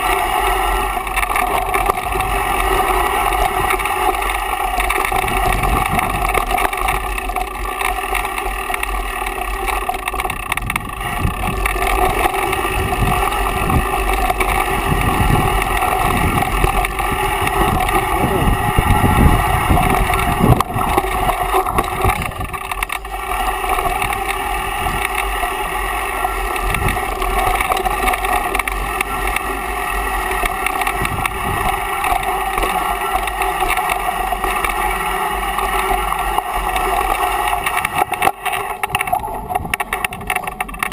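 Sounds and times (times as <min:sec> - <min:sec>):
bike rattling: 0:00.0 - 0:40.9
bike rolling on dirt rushing: 0:00.0 - 0:40.9
wheels knocking on bumps: 0:00.0 - 0:40.9.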